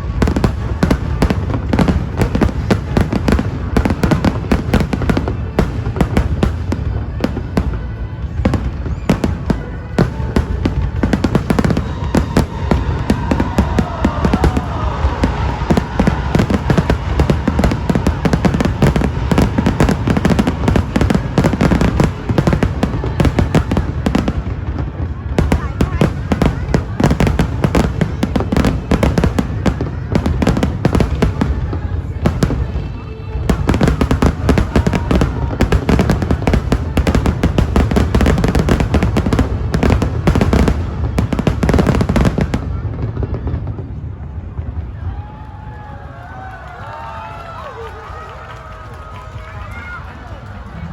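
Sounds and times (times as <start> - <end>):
deep fireworks booms: 0.0 - 45.8
fireworks bangs and crackles: 0.0 - 50.9.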